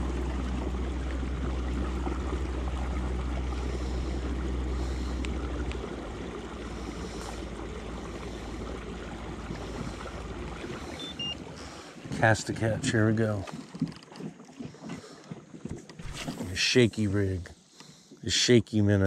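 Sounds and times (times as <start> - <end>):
low motor hum: 0.0 - 17.5
water washing along hull: 0.0 - 17.5.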